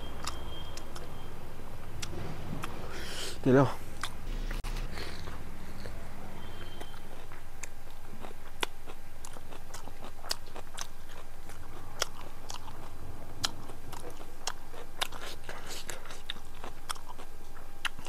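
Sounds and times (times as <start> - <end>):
person chewing food: 0.0 - 1.3, 1.9 - 3.2, 3.9 - 18.0.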